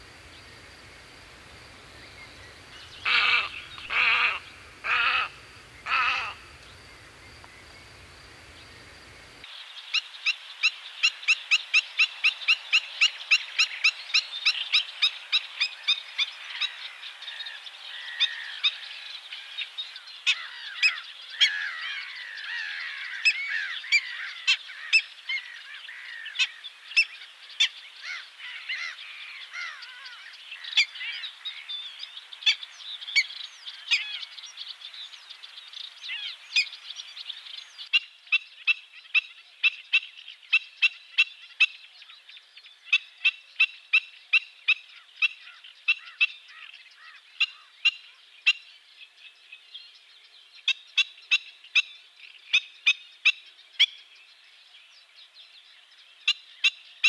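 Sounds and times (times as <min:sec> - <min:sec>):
birds calling with yapping notes: 0:00.0 - 0:57.0.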